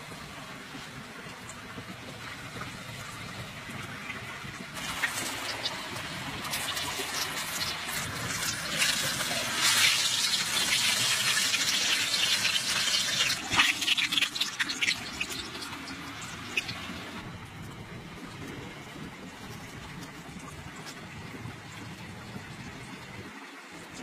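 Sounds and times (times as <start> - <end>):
chicken deep-frying in oil: 0.0 - 24.0.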